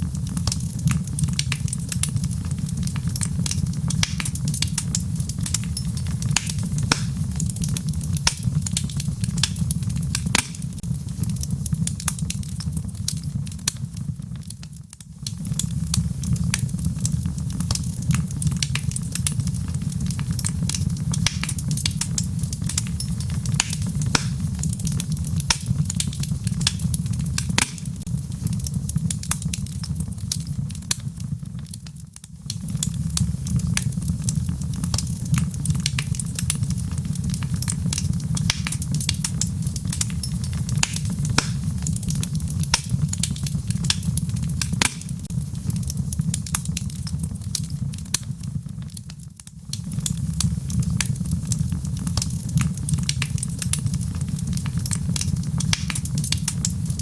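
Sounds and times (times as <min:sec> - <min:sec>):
logs burning and crackling: 0:00.0 - 0:57.0.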